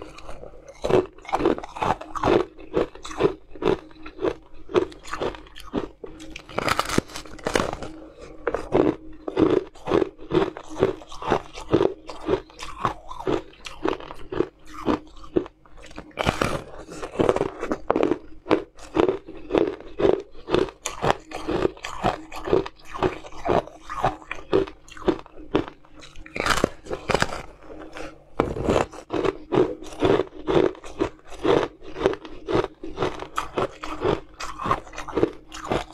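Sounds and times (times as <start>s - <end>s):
faint steady hum: 0.0s - 35.9s
ice being chewed: 0.0s - 35.9s.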